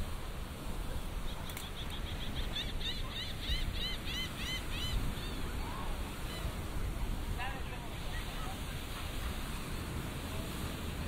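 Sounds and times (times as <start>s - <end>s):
surf and wind rush: 0.0s - 11.0s.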